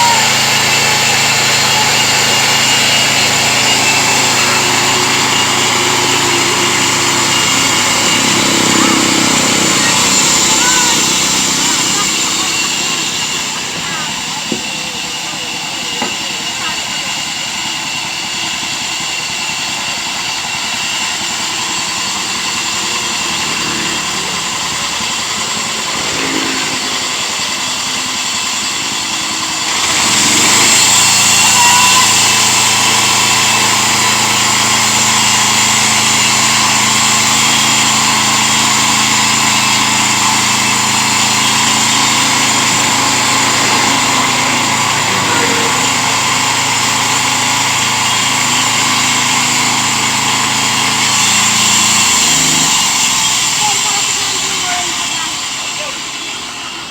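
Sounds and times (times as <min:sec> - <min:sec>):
sawmill engine running: 0:00.0 - 0:56.9.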